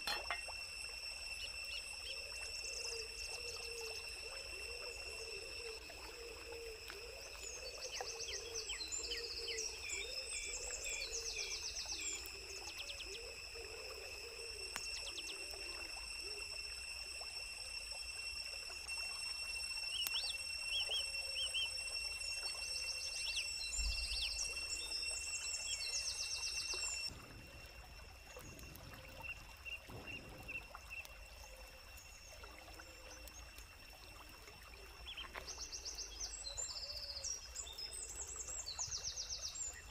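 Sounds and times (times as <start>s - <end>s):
steady high-pitched whine: 0.0s - 39.9s.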